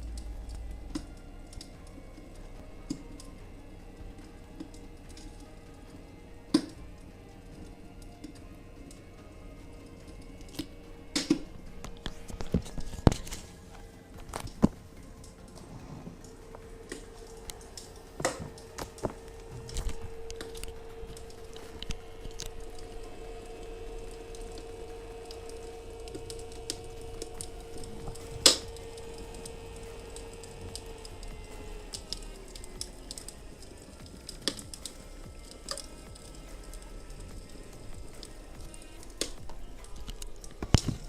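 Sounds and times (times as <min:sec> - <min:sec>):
crackling wood fire: 0:00.0 - 0:41.0
faint steady hum: 0:00.0 - 0:41.0.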